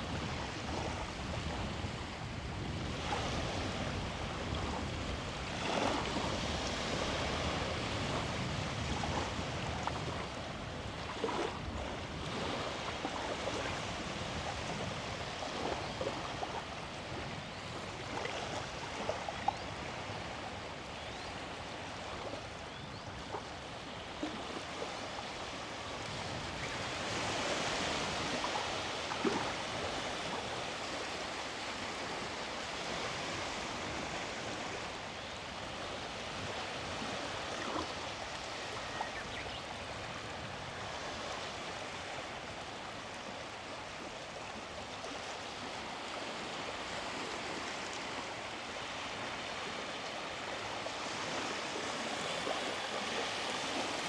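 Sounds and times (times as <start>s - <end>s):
sea waves washing on beach: 0.0s - 54.0s.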